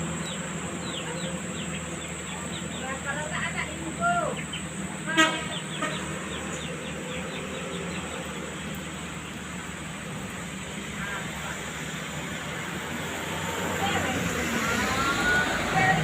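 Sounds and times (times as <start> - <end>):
insect drone: 0.0 - 15.9
vehicle engine idling: 0.0 - 16.0.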